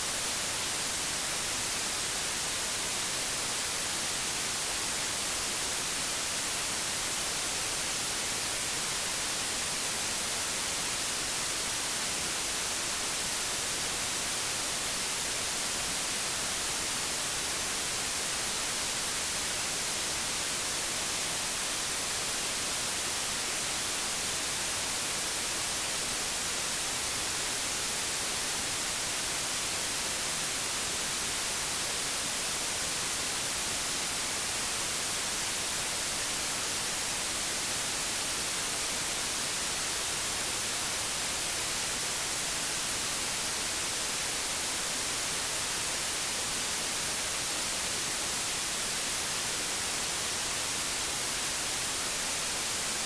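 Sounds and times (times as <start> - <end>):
television static hiss: 0.0 - 53.0.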